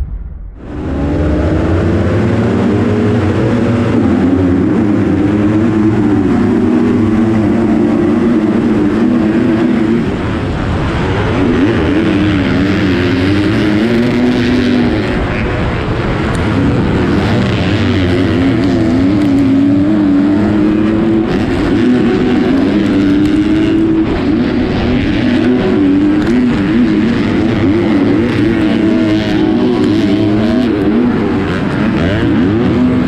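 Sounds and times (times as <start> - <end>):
motocross bike engine revving: 0.6 - 33.0.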